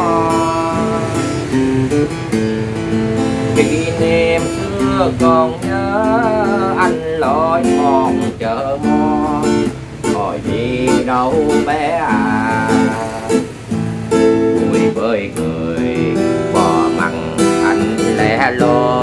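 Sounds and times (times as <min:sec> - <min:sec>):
man singing: 0:00.0 - 0:01.9, 0:03.4 - 0:19.0
acoustic guitar strumming: 0:00.0 - 0:19.0.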